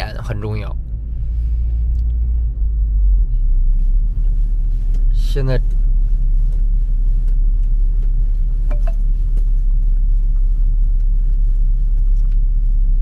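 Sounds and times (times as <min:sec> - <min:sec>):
car cabin drone of tyres: 0:00.0 - 0:13.0.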